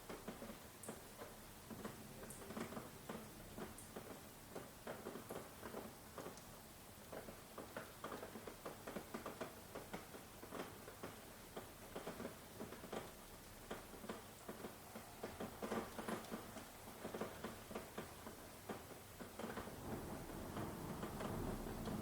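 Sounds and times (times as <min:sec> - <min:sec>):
rain drops tapping: 0:00.0 - 0:22.0.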